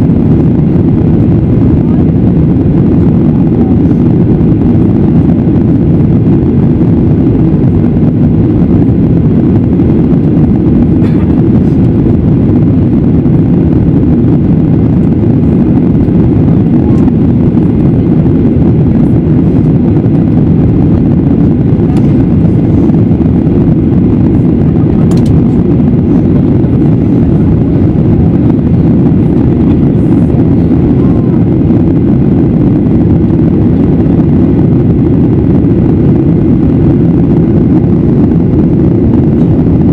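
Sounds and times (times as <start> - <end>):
airflow over fuselage: 0.0 - 39.9
airliner engine drone in cabin: 0.0 - 39.9.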